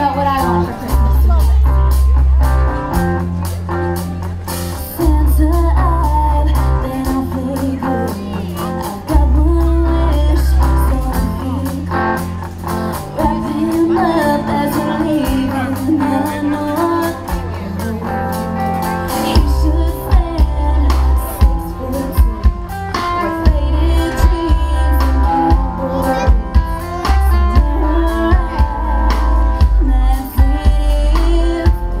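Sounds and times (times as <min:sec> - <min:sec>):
live band playing: 0:00.0 - 0:32.0
woman singing: 0:04.9 - 0:12.3, 0:13.1 - 0:32.0.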